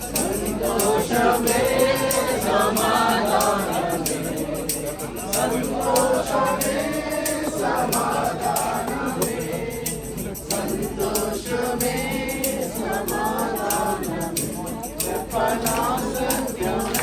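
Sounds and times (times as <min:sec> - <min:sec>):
congregation singing: 0:00.0 - 0:17.0
tambourine shaking: 0:00.0 - 0:17.0.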